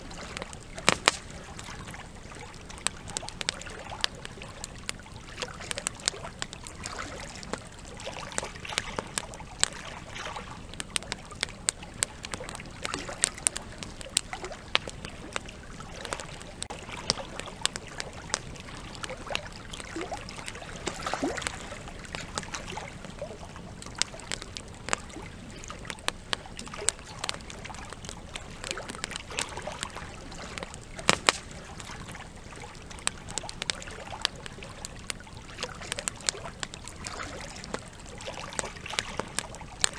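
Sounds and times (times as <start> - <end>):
river water flowing: 0.0 - 34.9
campfire crackling and popping: 0.0 - 39.9.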